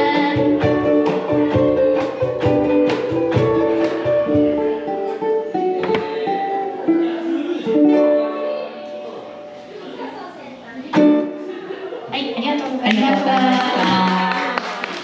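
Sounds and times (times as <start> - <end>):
ukuleles strumming chords: 0.0 - 15.0.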